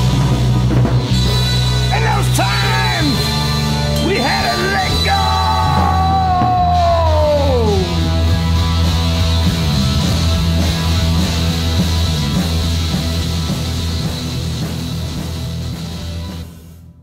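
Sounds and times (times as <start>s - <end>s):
electric guitar: 0.0s - 16.8s
low bass notes: 0.0s - 16.9s
drums: 0.0s - 17.0s.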